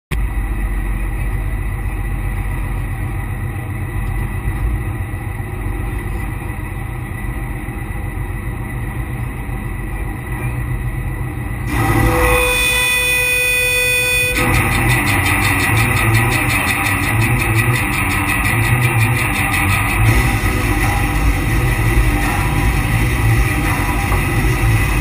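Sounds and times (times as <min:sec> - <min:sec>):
boat engine low rumble: 0:00.1 - 0:25.0.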